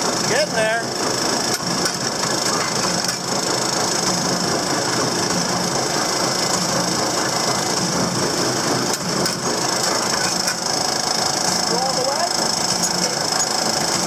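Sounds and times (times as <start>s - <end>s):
tractor engine at full throttle: 0.0s - 14.0s.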